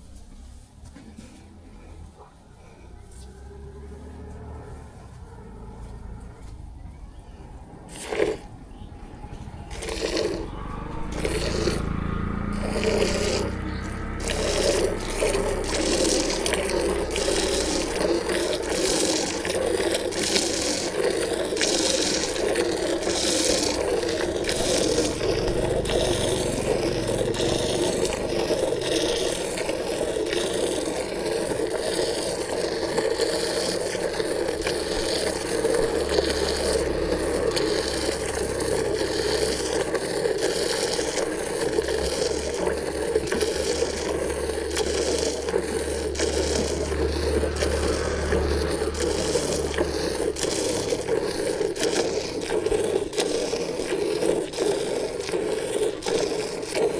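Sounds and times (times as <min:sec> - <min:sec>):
milk squirting into a pail: 0:07.8 - 0:56.9.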